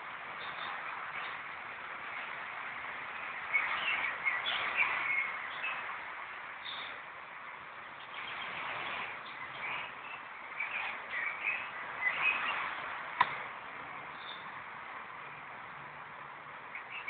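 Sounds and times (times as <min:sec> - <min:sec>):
steady background hiss: 0:00.0 - 0:17.0
small birds chirping: 0:00.2 - 0:15.7, 0:16.5 - 0:17.0.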